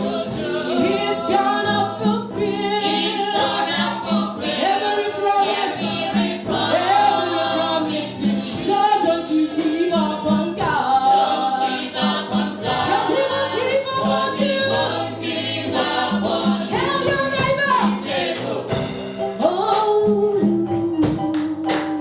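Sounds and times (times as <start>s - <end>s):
gospel choir singing: 0.0s - 20.9s.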